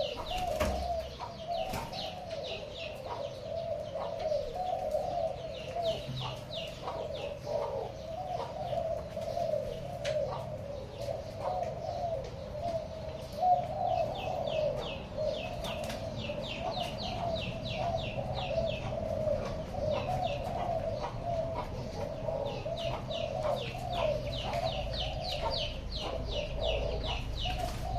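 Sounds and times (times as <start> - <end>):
doves cooing: 0.0 - 27.9.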